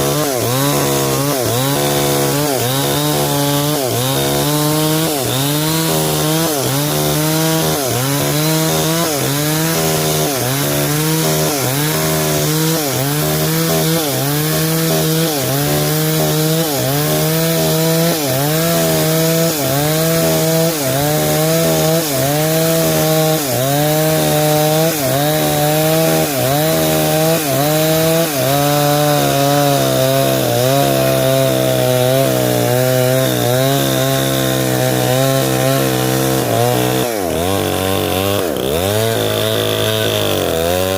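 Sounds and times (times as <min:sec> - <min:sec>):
chainsaw ripping timber: 0:00.0 - 0:40.9.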